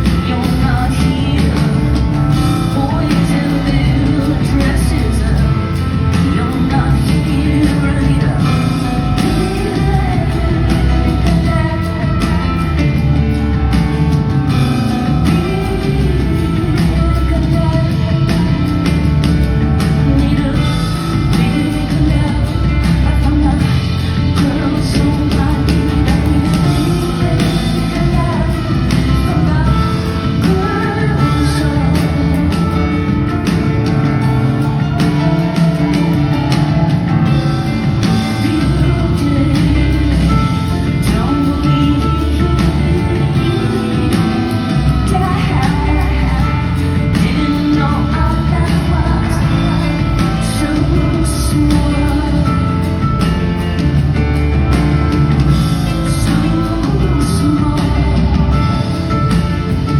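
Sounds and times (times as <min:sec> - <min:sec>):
live rock band: 0:00.0 - 0:59.9
woman singing: 0:00.0 - 0:59.9.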